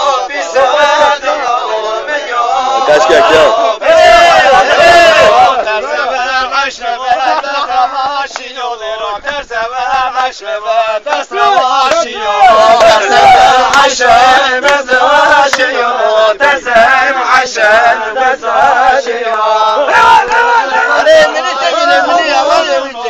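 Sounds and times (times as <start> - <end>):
men singing folk song: 0.0 - 23.0.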